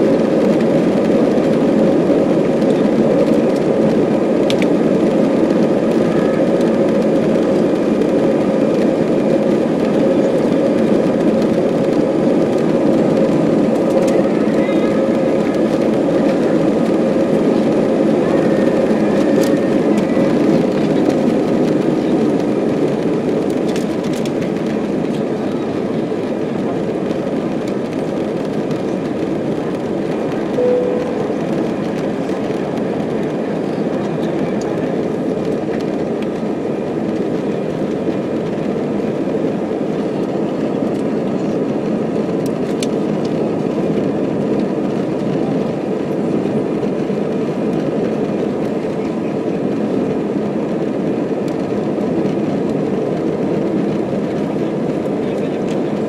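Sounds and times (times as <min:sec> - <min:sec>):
jet engines at take-off thrust: 0:00.0 - 0:56.0
wheels rumbling on runway: 0:00.0 - 0:56.0.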